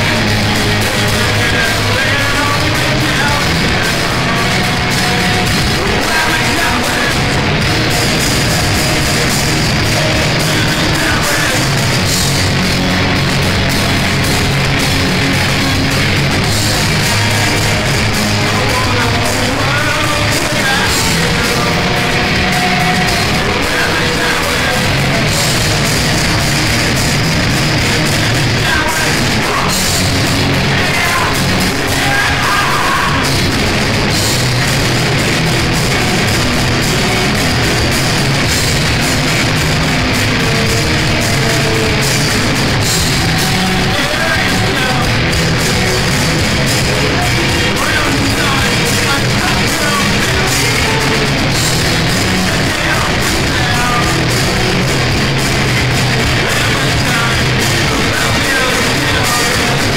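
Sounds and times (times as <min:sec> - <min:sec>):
live grunge band playing: 0:00.0 - 0:59.9.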